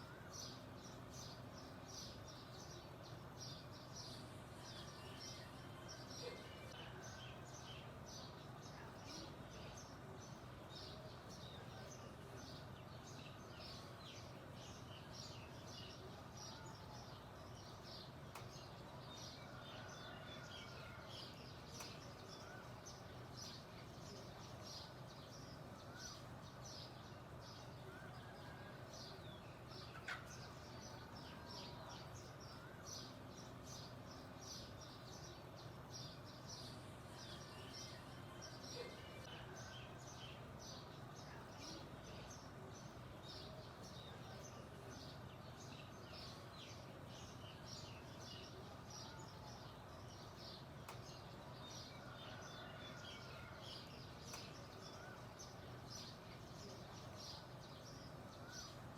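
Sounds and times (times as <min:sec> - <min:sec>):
faint low background hum: 0:00.0 - 0:58.9
songbirds chirping: 0:00.0 - 0:58.9.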